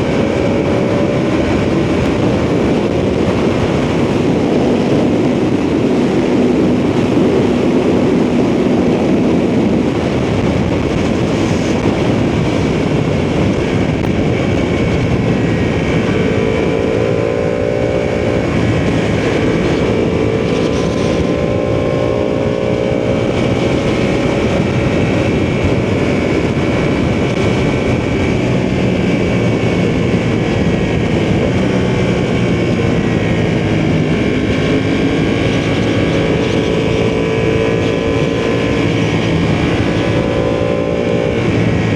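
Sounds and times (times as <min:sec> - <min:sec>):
motorcycle engine running: 0:00.0 - 0:41.9
wind rush over microphone: 0:00.0 - 0:41.9.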